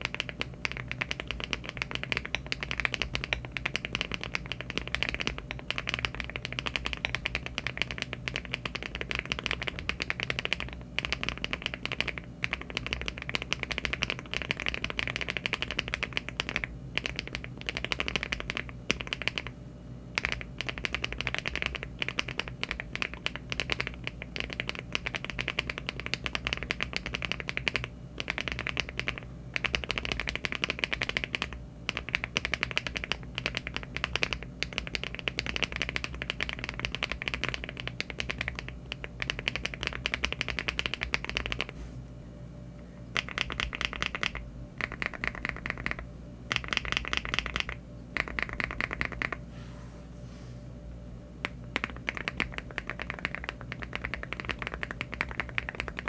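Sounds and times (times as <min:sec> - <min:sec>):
mechanical keyboard typing: 0:00.0 - 0:19.5, 0:20.2 - 0:41.7, 0:43.1 - 0:49.4, 0:51.4 - 0:56.0.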